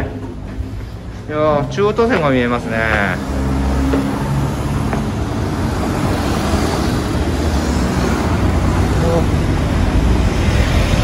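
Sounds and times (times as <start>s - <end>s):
vehicles driving past: 0.0s - 11.0s.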